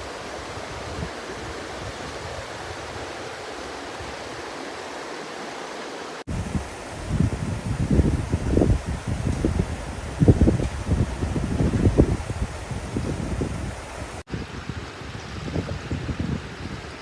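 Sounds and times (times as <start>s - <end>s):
wind buffeting microphone: 0.0s - 4.4s, 6.3s - 17.0s
rushing water: 0.0s - 17.0s.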